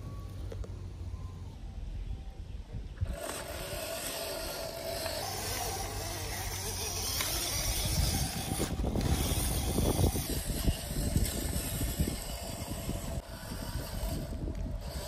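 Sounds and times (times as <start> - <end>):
electric motor and gears whirring: 0.0 - 15.0.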